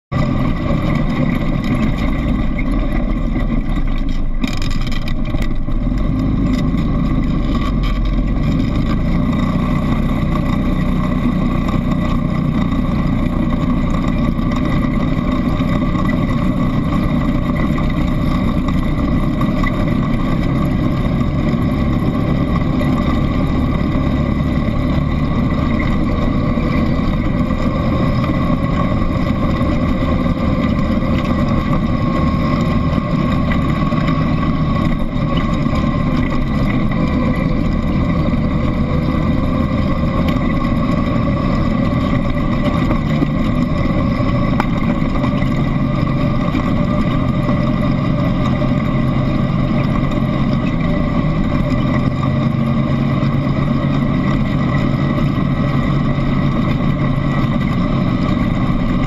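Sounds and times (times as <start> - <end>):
atv engine running: 0.1 - 59.0.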